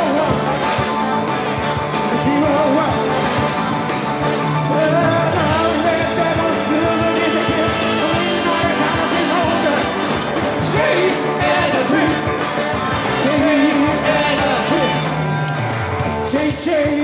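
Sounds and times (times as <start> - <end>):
lead singer singing: 0.0 - 0.7, 2.0 - 3.2, 4.5 - 15.5, 16.1 - 17.0
rock band playing: 0.0 - 17.0.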